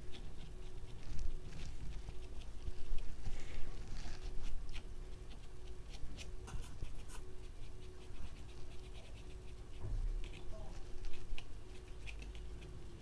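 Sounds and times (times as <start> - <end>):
scratchy paintbrush strokes: 0.0 - 13.0.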